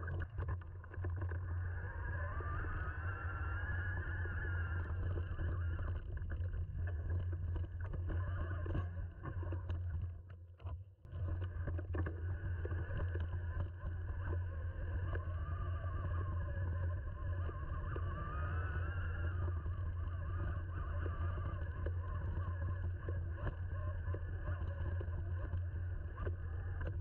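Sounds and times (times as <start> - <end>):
whine wavering in pitch: 0.0 - 27.0.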